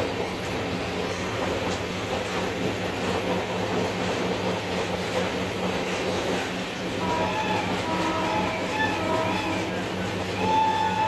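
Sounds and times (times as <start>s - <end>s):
train wheels rumbling and rattling: 0.0s - 11.0s.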